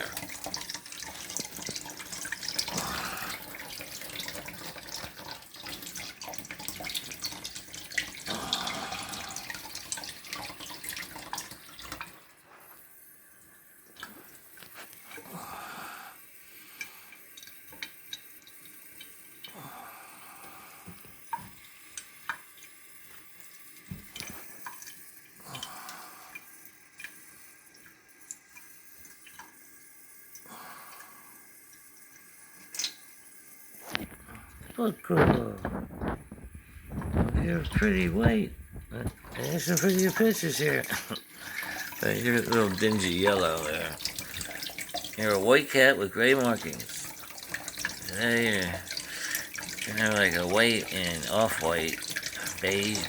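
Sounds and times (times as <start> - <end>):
water dripping: 0.0 - 15.5, 16.2 - 53.0
water running from tap: 0.0 - 53.0.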